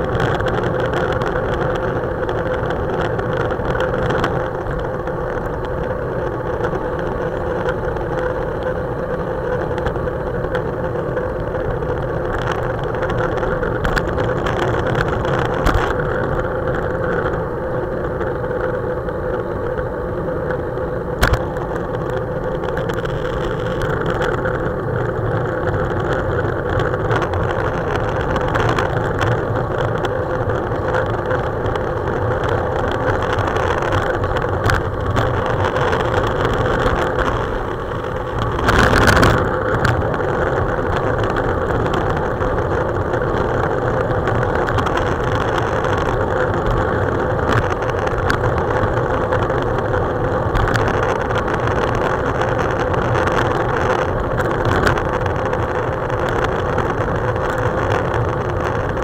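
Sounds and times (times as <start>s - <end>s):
faint steady hum: 0.0s - 59.0s
wind and road rumble: 0.0s - 59.0s.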